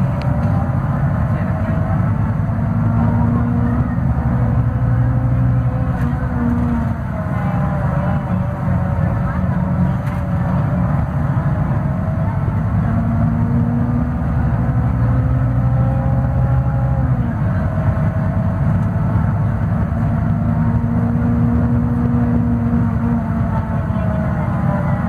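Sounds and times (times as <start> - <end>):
bus diesel engine pulling uphill: 0.0 - 25.0.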